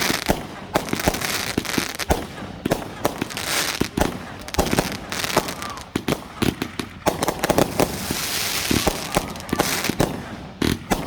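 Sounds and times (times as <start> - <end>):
crackling hiss: 0.0 - 11.0
firework bangs: 0.0 - 11.0.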